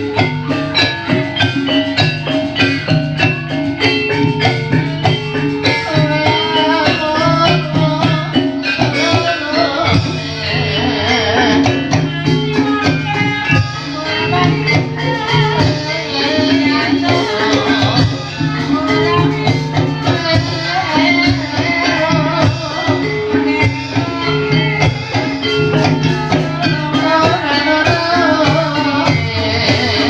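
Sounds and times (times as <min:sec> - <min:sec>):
gamelan music: 0:00.0 - 0:30.0.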